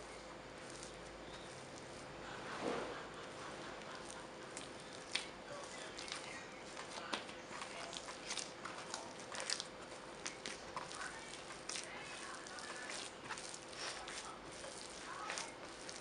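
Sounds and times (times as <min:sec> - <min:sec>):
dough being kneaded by hand: 0:00.0 - 0:16.0
faint steady hum: 0:00.0 - 0:16.0.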